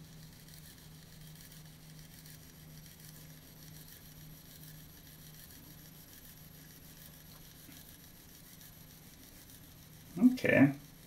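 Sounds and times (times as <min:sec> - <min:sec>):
faint motor hum: 0:00.0 - 0:11.0.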